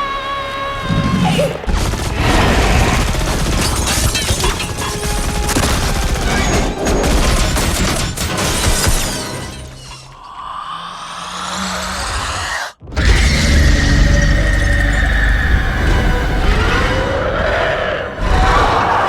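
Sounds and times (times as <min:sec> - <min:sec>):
film music score: 0:00.0 - 0:19.0.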